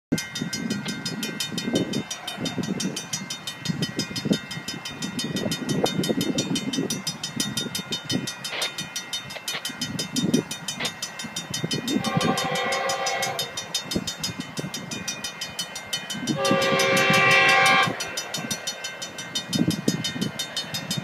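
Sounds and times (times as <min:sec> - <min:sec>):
approaching train rumble: 0:00.1 - 0:21.0
rapid high ticking: 0:00.2 - 0:21.0.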